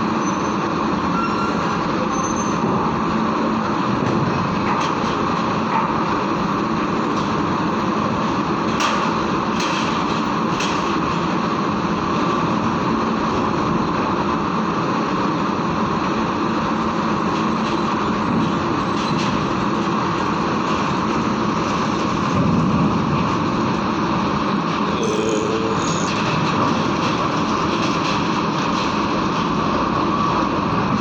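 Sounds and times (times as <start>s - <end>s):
truck diesel engines running: 0.0s - 31.0s.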